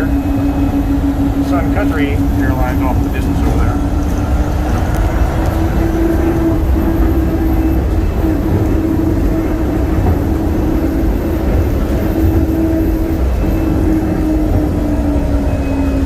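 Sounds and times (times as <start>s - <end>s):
motor hum: 0.0s - 16.0s
train rumble: 0.0s - 16.0s.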